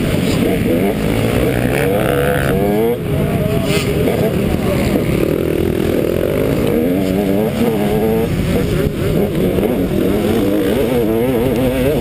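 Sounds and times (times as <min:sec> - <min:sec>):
dirt bike engine revving: 0:00.0 - 0:03.2, 0:03.8 - 0:12.0.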